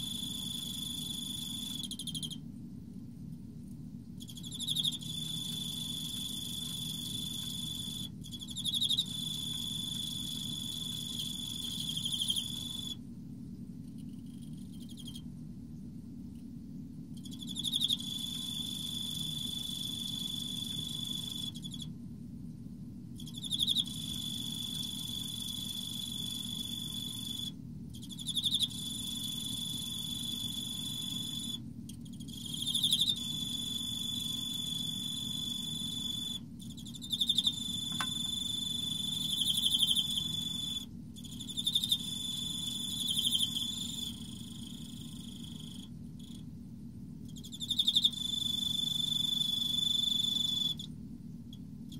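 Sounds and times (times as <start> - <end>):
cricket trilling: 0.0 - 2.5, 4.2 - 13.0, 13.9 - 15.3, 17.1 - 21.9, 23.2 - 46.5, 47.2 - 51.9.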